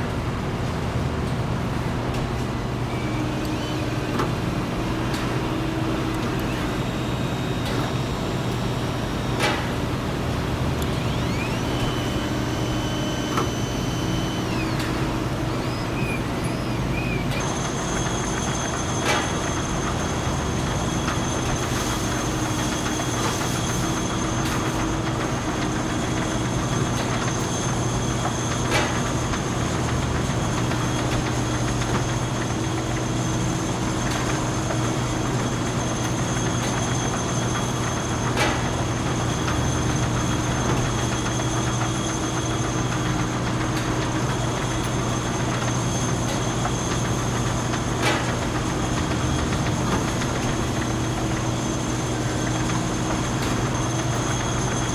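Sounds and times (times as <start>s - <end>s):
industrial machinery humming: 0.0s - 54.9s.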